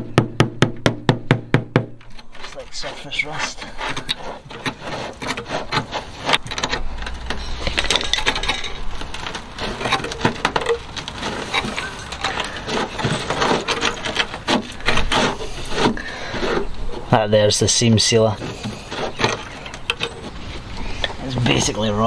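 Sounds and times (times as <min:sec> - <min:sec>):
rust flakes crackling and crunching: 0:02.0 - 0:22.0.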